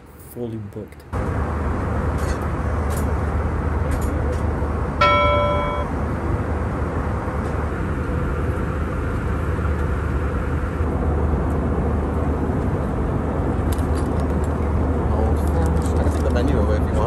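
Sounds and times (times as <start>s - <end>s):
airplane cabin engine drone: 1.1s - 17.0s.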